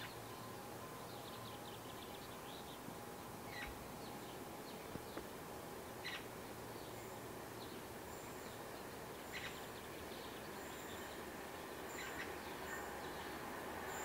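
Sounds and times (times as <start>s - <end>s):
faint birds chirping: 0.0s - 14.0s
low background noise: 0.0s - 14.0s.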